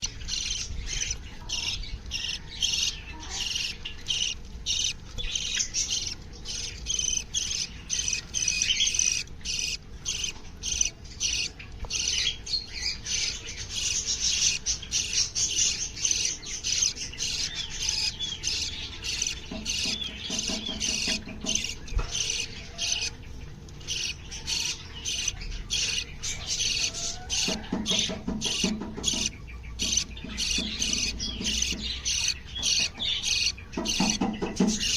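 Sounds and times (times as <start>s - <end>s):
harsh bird calls: 0.0s - 34.9s
small birds chirping: 0.0s - 34.9s.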